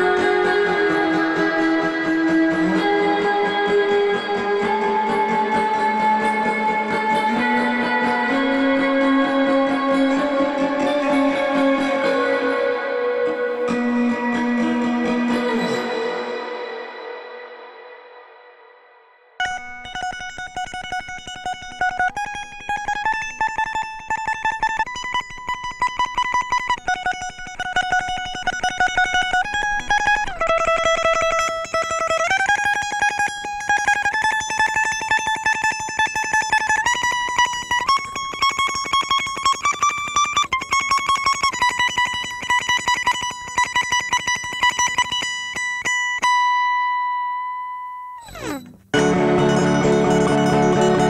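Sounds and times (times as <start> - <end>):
tremolo-picked guitar melody: 0.0 - 18.4, 19.3 - 51.0.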